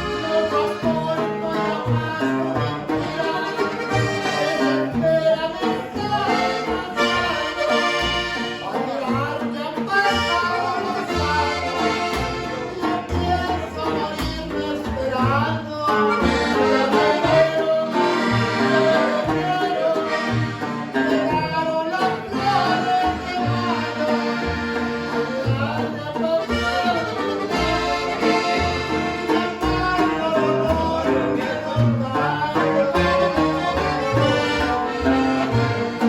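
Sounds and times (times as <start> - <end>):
accordion music with bass line: 0.0 - 36.0.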